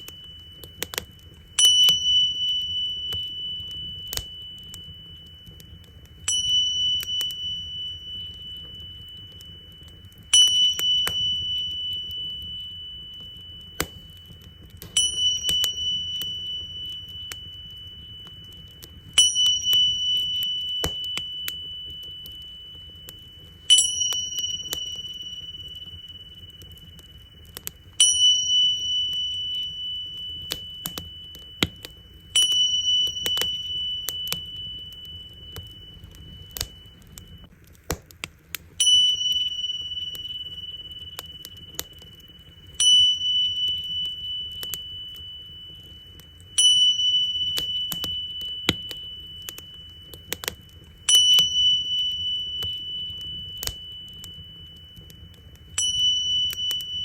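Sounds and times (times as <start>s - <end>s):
tingsha cymbals ringing: 0.0s - 37.5s, 38.8s - 57.0s
wood fire crackling: 0.0s - 57.0s.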